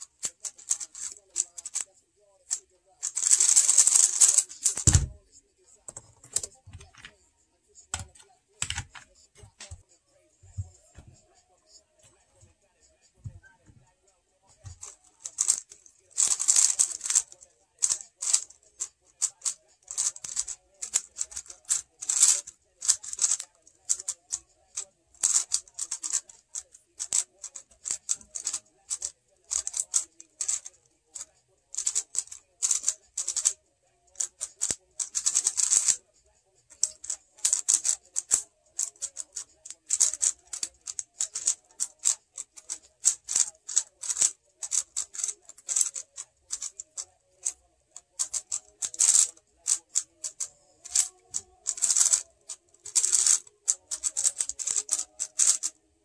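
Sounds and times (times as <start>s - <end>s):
puzzle cube clicking as turned: 0.0s - 1.8s, 2.5s - 5.1s, 14.6s - 36.0s, 36.7s - 55.8s.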